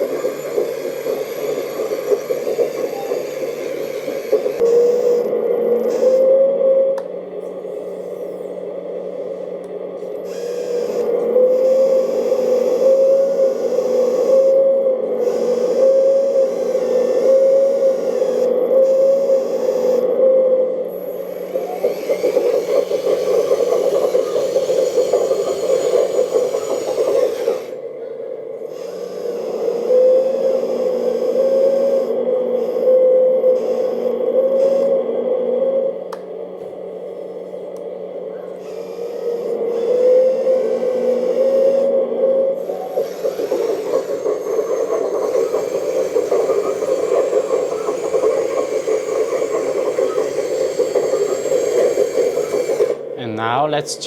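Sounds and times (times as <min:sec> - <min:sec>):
hydraulic pump whine: 0:00.0 - 0:54.0.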